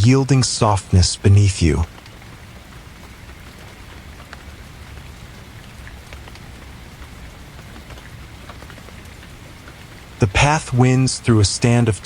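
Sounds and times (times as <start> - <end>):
raindrops ticking: 0.0 - 12.0
steady rainfall: 0.0 - 12.0.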